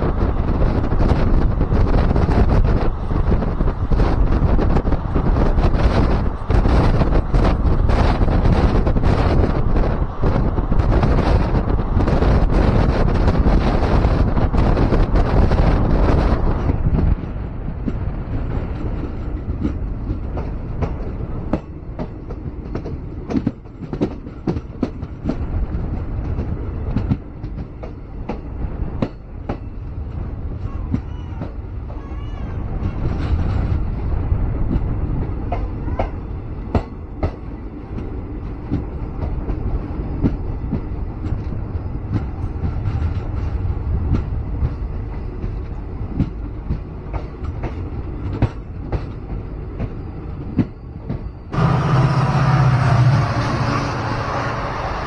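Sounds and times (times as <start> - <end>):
train wheels clacking: 0.0 - 34.0, 34.6 - 55.0
train rumbling on track: 0.0 - 55.0.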